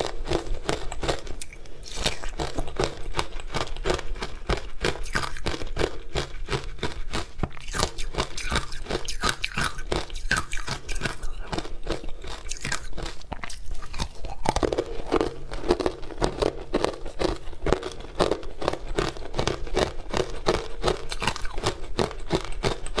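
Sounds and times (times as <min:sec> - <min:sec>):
ice being chewed crunching: 0:00.0 - 0:23.0.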